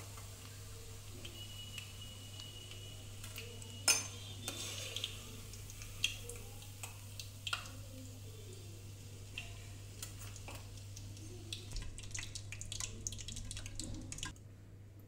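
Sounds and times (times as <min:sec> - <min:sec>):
hot oil sizzling: 0:00.0 - 0:14.4.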